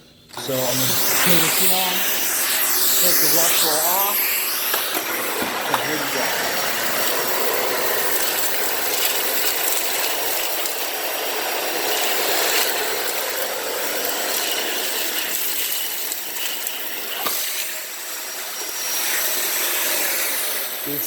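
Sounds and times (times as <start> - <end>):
vacuum cleaner suction hiss: 0.0 - 21.0
cat litter crackling in nozzle: 0.3 - 21.0.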